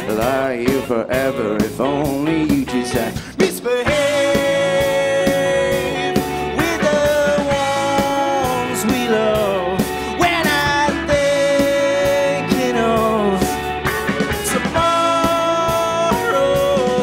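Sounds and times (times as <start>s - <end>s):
live rock band playing: 0.0s - 17.0s
man singing lead: 0.0s - 17.0s.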